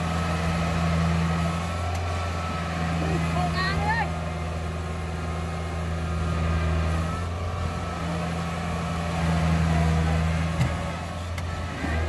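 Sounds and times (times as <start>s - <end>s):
harvester engine running steadily: 0.0s - 12.0s.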